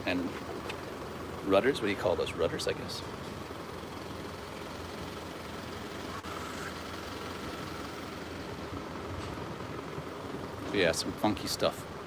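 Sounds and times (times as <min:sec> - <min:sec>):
city street hum: 0:00.0 - 0:12.0.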